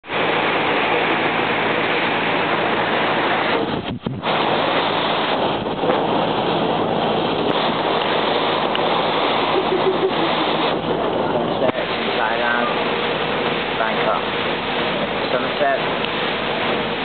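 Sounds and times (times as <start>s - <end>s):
water noise from boat: 0.0s - 17.0s
wind on microphone: 0.0s - 17.0s.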